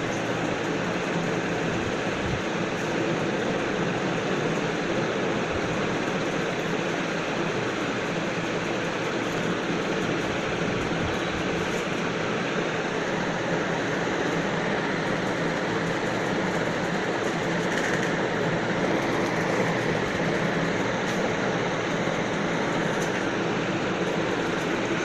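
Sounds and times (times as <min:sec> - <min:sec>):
steady rushing noise: 0:00.0 - 0:25.0.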